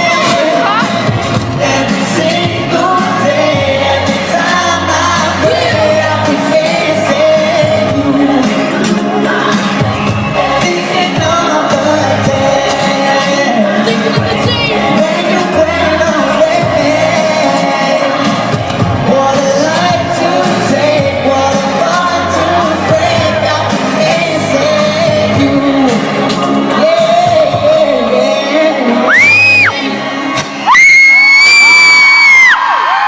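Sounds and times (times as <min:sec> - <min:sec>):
live pop song over pa: 0:00.0 - 0:33.0.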